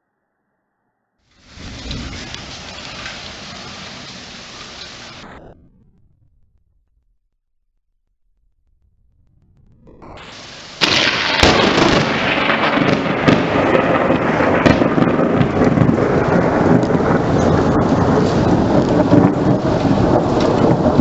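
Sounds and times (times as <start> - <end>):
loud rumbling and crackling: 1.3 - 21.0.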